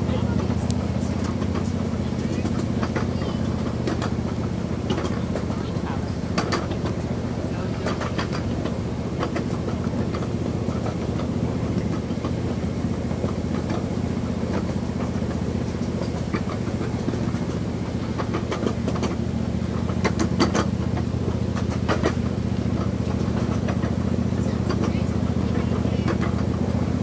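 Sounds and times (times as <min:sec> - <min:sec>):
train wheels clicking: 0:00.0 - 0:27.0.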